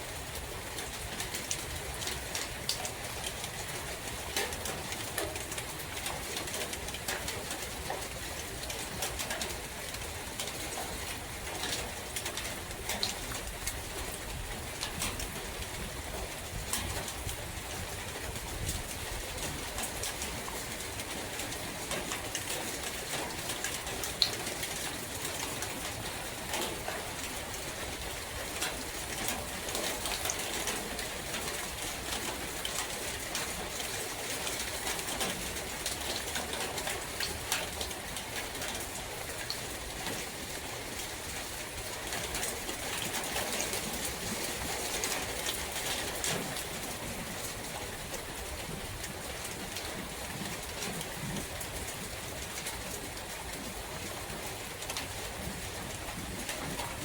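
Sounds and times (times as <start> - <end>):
steady rain in a forest: 0.0 - 57.0
raindrops ticking: 0.2 - 57.0.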